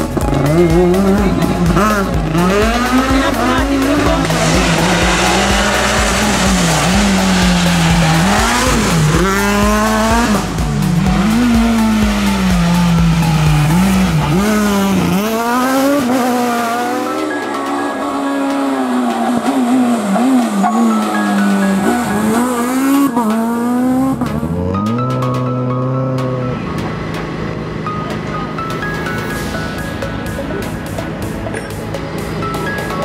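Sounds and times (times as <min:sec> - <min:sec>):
background music with steady beat: 0:00.0 - 0:33.0
rally car engine at full throttle: 0:00.0 - 0:33.0.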